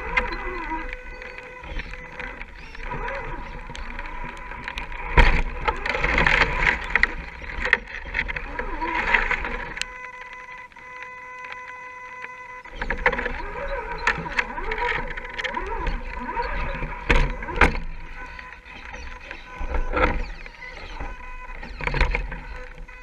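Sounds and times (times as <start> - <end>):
grinding and crackling: 0.0 - 23.0
high electric whine: 0.0 - 23.0.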